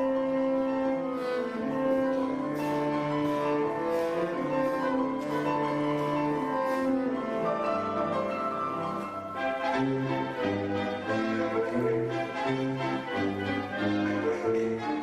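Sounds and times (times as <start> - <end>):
instrumental ensemble classical piece: 0.0 - 15.0.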